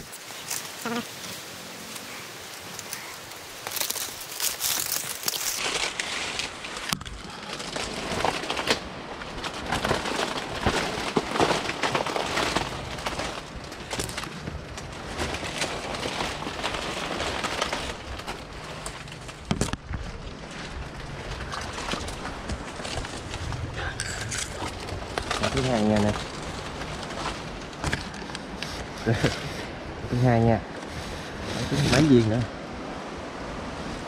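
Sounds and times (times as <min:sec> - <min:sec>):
dry leaves rustling and crackling: 0:00.0 - 0:29.8.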